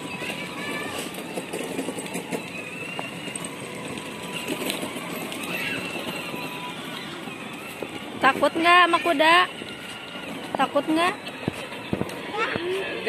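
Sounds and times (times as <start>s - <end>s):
plastic wheels rattling over paving: 0.0s - 13.0s
small electric motors running: 0.0s - 13.0s.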